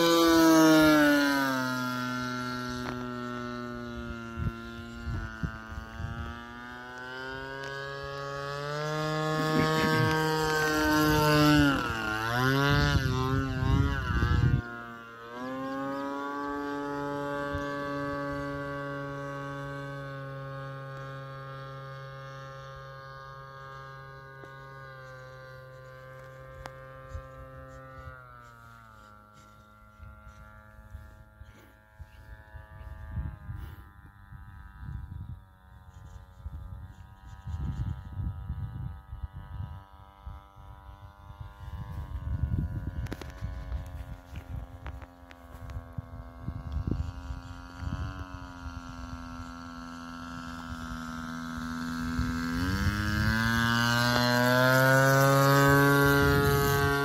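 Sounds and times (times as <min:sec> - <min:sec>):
wind rumble on microphone: 0:00.0 - 0:08.5, 0:09.1 - 0:57.0
model airplane engine: 0:00.0 - 0:57.0.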